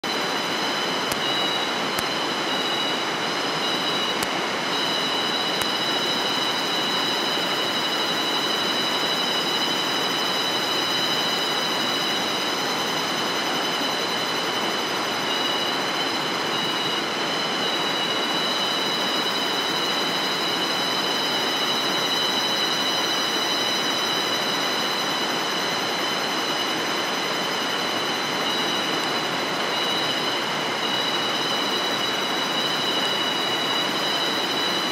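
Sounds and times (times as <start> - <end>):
insects chorus: 0.0 - 34.9.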